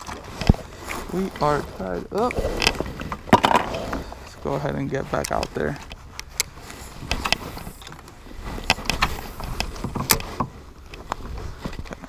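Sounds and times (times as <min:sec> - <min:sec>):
fishing gear clicks and knocks: 0:00.0 - 0:12.0.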